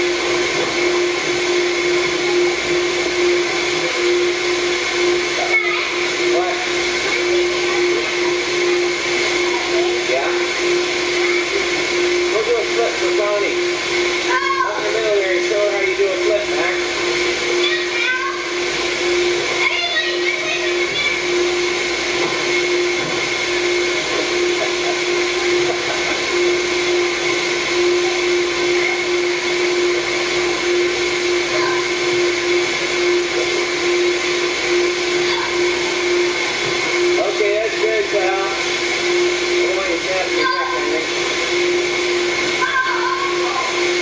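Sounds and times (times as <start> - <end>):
electric air blower whirring: 0.0 - 44.0.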